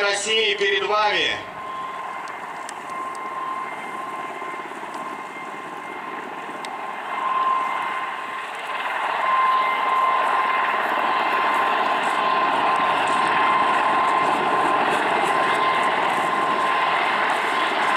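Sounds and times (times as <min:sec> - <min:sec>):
helicopters flying past: 0:00.0 - 0:17.9.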